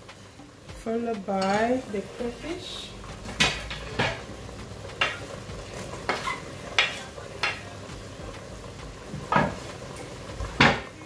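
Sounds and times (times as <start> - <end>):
food sizzling in pot: 0.0 - 11.0.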